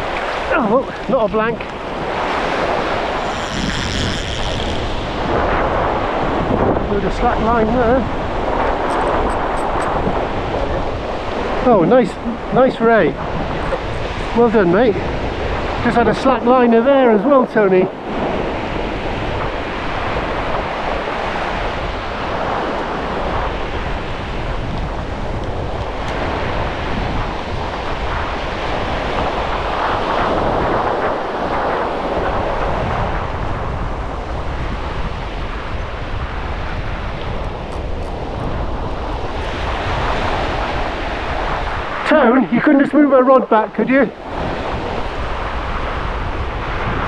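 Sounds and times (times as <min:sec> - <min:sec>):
surf breaking on beach: 0:00.0 - 0:47.0
wind buffeting microphone: 0:00.0 - 0:47.0.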